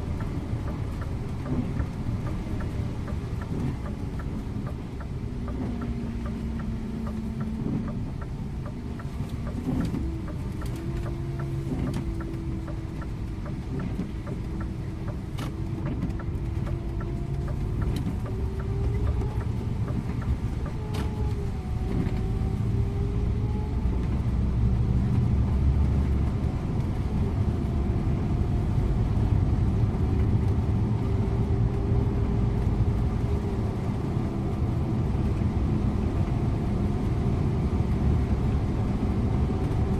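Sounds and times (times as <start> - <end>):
bus diesel engine and drivetrain: 0.0 - 39.9
road and tyre rumble: 0.0 - 39.9.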